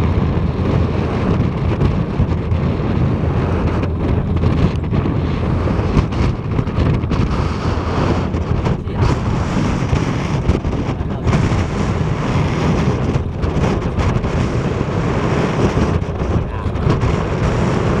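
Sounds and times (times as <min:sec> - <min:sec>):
boat and sea rumble: 0:00.0 - 0:18.0
wind buffeting microphone: 0:00.0 - 0:18.0.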